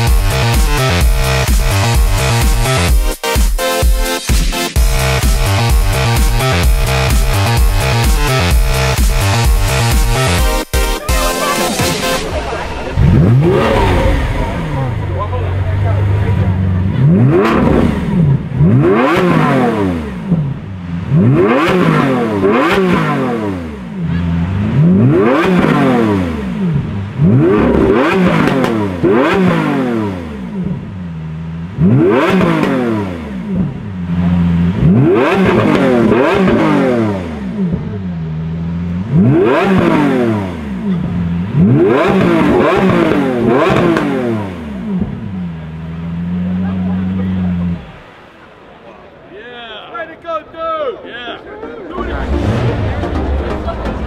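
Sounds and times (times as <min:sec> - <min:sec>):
sports car engine revving: 0:00.0 - 0:03.8, 0:04.7 - 0:48.6, 0:51.9 - 0:54.0.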